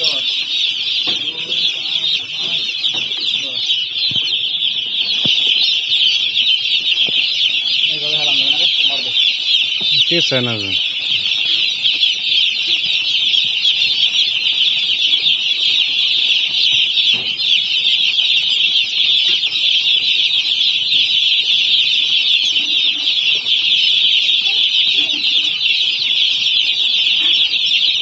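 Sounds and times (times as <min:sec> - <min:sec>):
chicks peeping: 0:00.0 - 0:28.0.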